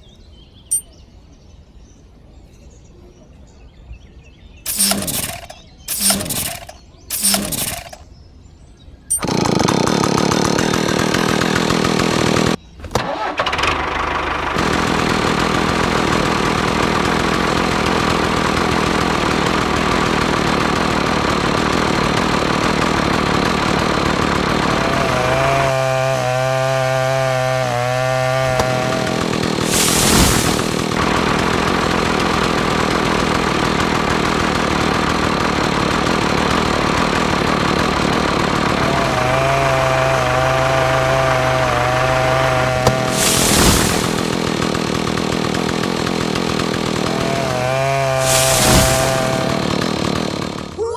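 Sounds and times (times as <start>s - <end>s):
miniature circular saw whirring: 4.7s - 8.0s, 9.1s - 12.6s, 13.2s - 50.9s.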